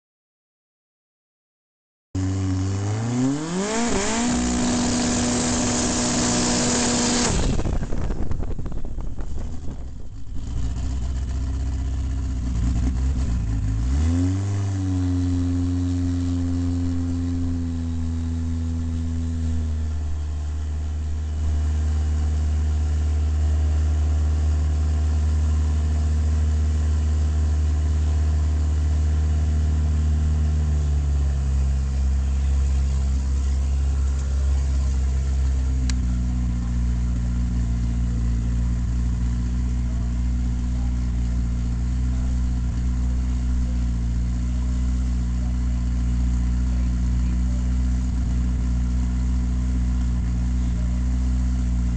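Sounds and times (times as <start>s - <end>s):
car engine idling: 2.2s - 51.9s.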